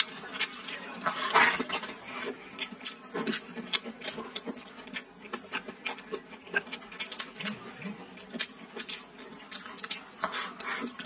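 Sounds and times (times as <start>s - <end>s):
close chewing and mouth smacking: 0.0s - 11.0s.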